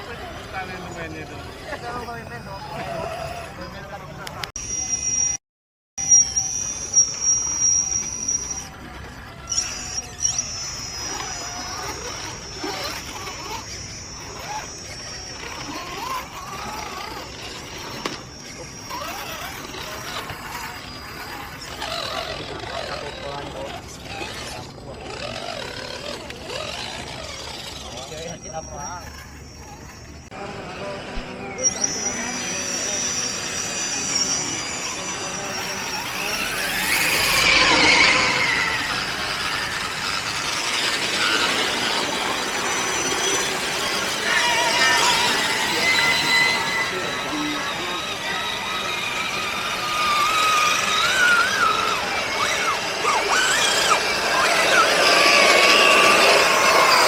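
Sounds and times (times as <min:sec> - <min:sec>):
electric motor and gears whirring: 0:00.0 - 0:05.4, 0:06.0 - 0:57.0.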